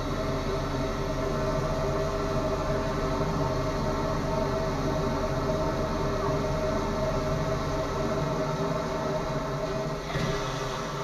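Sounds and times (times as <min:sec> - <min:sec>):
drain jetting machine drone: 0:00.0 - 0:11.0.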